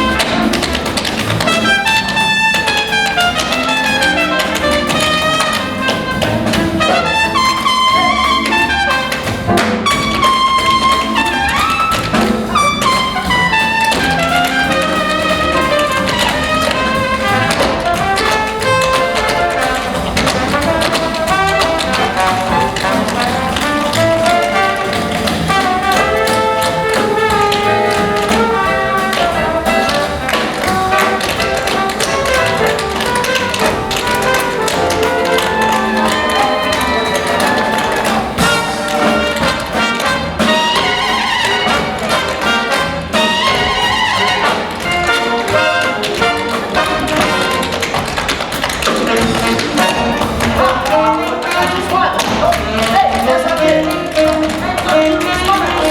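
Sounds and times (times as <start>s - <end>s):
jazz big band with brass: 0.0s - 55.9s.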